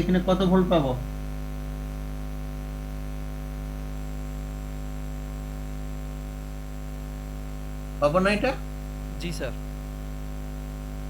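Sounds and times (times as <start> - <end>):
electrical hum with buzzy overtones: 0.0 - 11.0.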